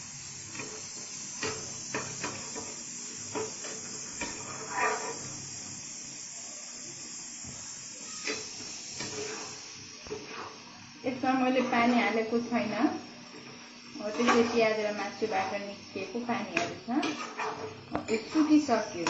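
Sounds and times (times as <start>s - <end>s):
gravy sizzling in a pan: 0.0s - 19.0s.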